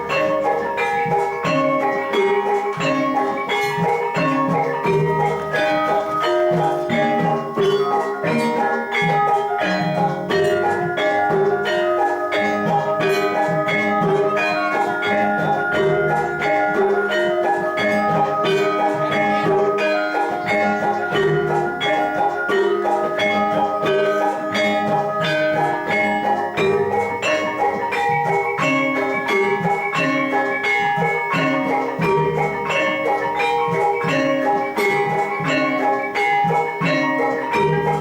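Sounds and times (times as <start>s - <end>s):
gamelan ensemble playing: 0.0s - 38.0s.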